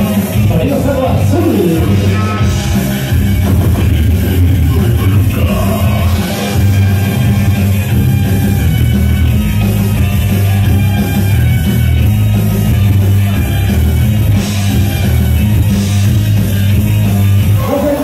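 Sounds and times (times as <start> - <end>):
loud dance music with heavy bass: 0.1 - 18.0.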